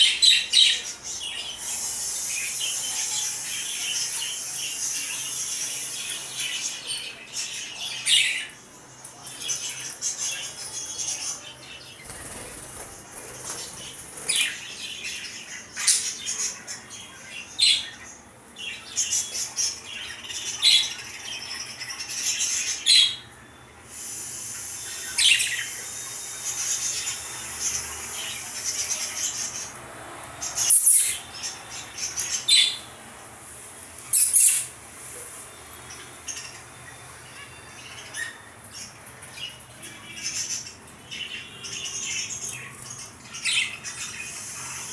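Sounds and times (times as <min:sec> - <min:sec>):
birds chattering chirps: 0:00.0 - 0:33.3, 0:34.0 - 0:44.9.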